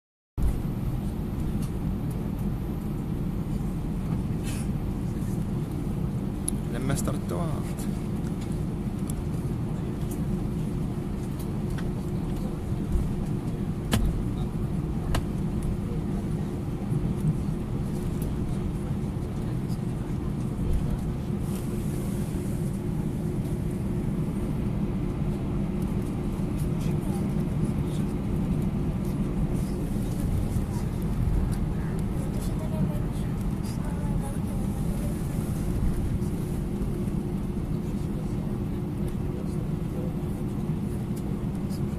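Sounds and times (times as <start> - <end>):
aircraft engines low rumble: 0.4 - 41.9.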